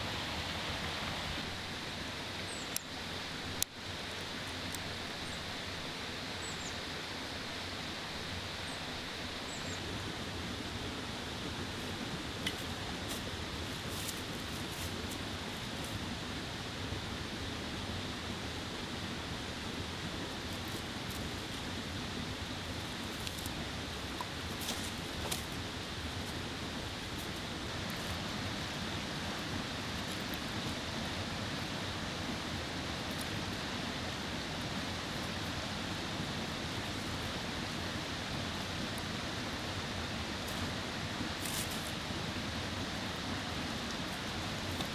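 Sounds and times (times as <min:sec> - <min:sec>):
mountain stream rushing: 0:00.0 - 0:44.9.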